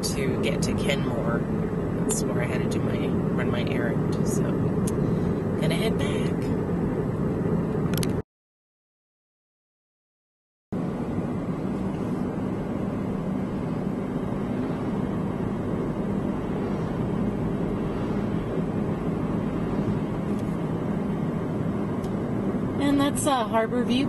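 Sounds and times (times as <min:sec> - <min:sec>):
car engine and tyres humming: 0:00.0 - 0:08.2, 0:10.8 - 0:24.0.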